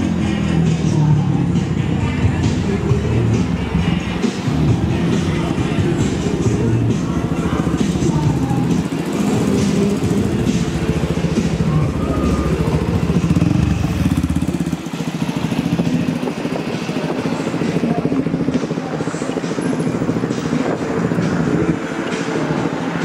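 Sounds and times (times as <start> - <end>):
faint voices: 0.0 - 23.0
street noise: 0.0 - 23.0
vehicle engine exhaust rumble: 0.0 - 23.0.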